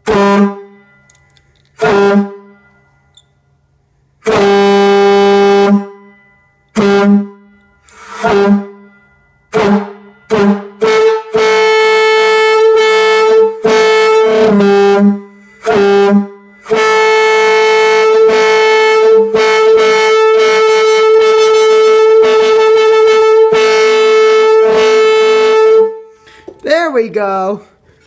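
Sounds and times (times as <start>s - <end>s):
train air horn blasts: 0.0s - 0.9s, 1.8s - 2.8s, 4.2s - 26.4s.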